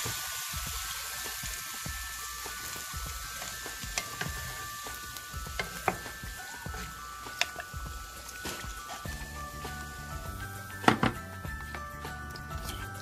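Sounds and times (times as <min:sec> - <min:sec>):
food sizzling in pot: 0:00.0 - 0:13.0
soft background music: 0:00.1 - 0:13.0.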